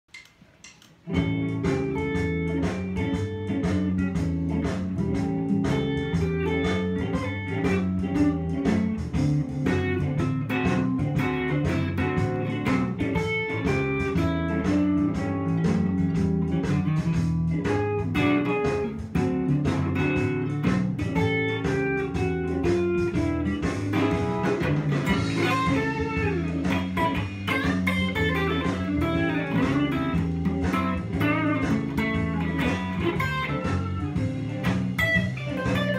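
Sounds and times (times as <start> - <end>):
electric guitar blues lead: 1.0 - 35.9
steady beat: 1.0 - 35.9
bass line: 1.1 - 35.9.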